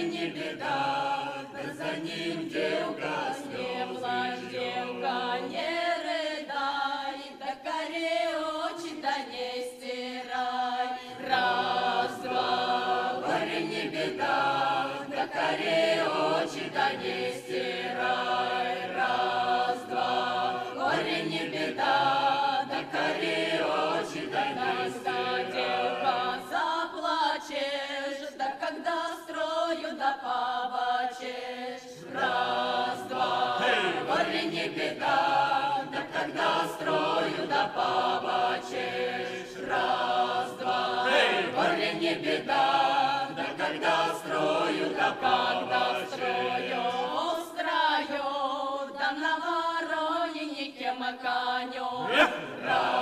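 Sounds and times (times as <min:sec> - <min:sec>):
choir singing folk song: 0:00.0 - 0:53.0.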